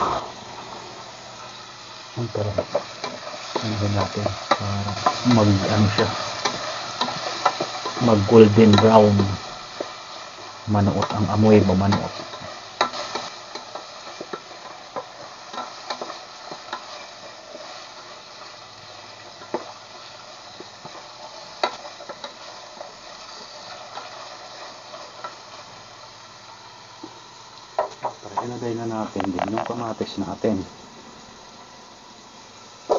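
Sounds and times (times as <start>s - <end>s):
onion sizzling in hot oil: 0.0s - 32.9s.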